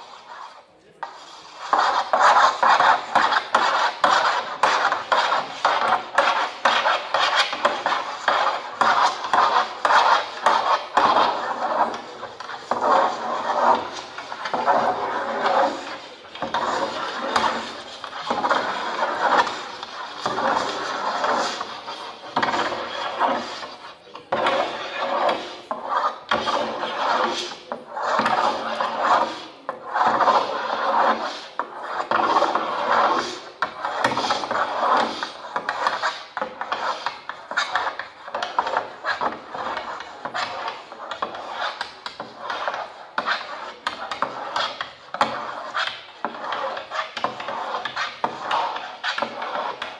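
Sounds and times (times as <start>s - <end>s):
drawing tools scraping paper: 0.0s - 49.9s.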